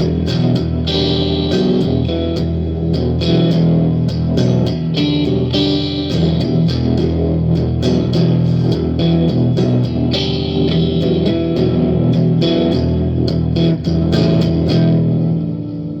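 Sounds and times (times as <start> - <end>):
guitar strumming and picking: 0.0 - 16.0.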